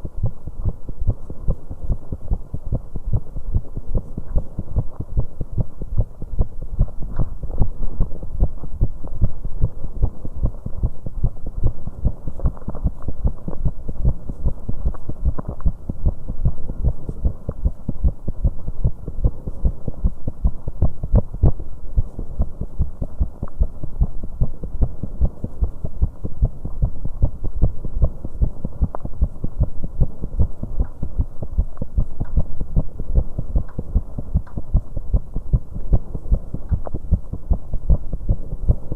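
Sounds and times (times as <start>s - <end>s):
fast heartbeat thumps: 0.2s - 38.9s.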